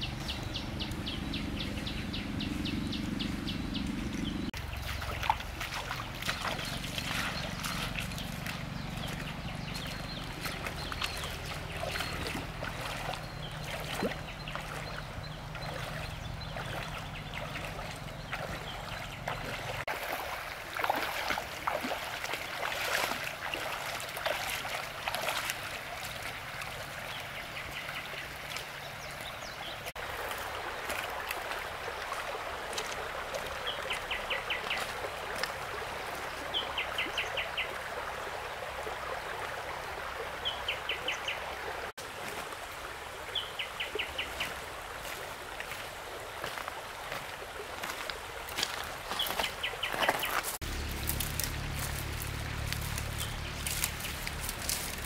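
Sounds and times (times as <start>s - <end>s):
water splashes: 0.0s - 55.0s
water running and trickling: 3.6s - 55.0s.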